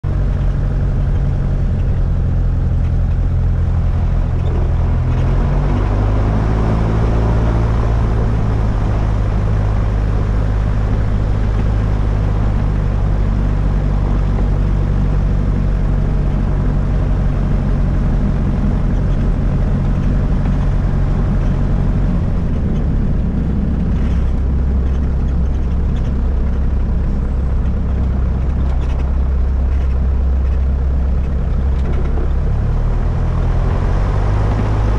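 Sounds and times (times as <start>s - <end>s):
aircraft engine drone: 0.0s - 34.9s.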